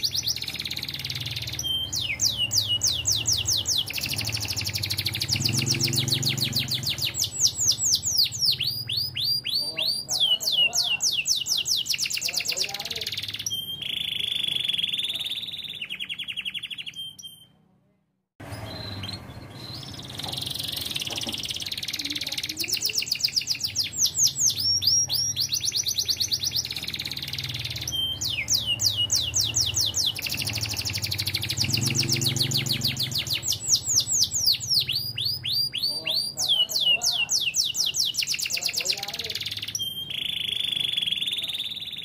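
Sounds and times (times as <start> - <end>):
canary singing: 0.0 - 17.6, 18.4 - 42.0.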